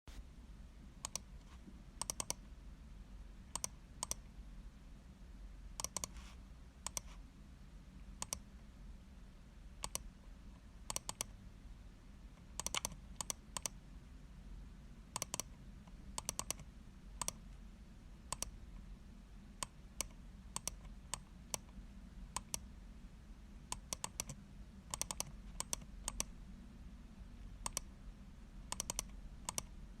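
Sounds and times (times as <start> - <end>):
faint low hum: 0.1 - 30.0.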